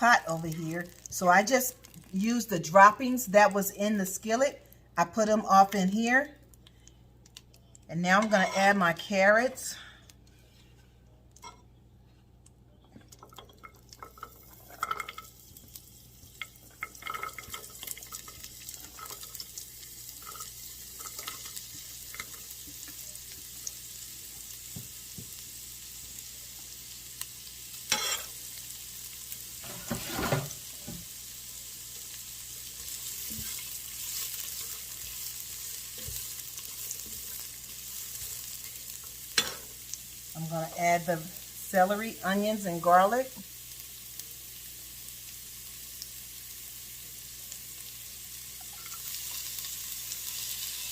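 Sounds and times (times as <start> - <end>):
carrots sizzling in a pot: 0.0 - 6.5, 13.1 - 50.9.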